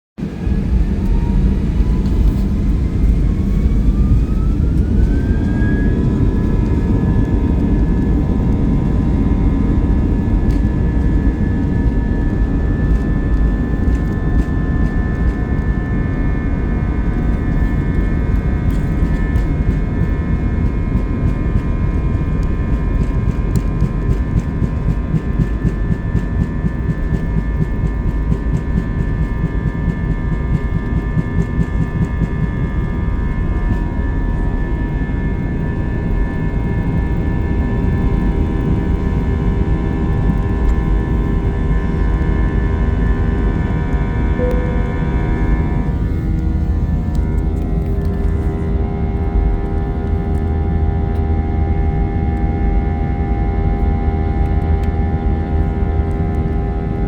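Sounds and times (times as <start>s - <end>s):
heavy low rumble: 0.2s - 57.0s
jet engines whining: 0.2s - 57.0s.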